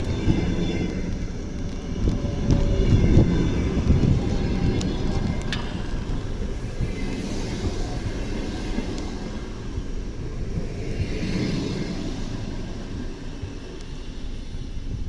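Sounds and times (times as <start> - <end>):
high hiss: 0.0 - 15.0
train wheels rumbling on rail: 0.0 - 15.0.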